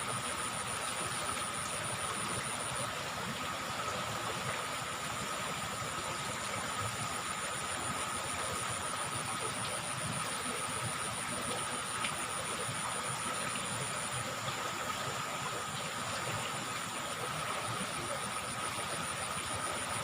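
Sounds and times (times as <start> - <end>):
insects trilling: 0.0 - 20.0
water rushing: 0.0 - 20.0.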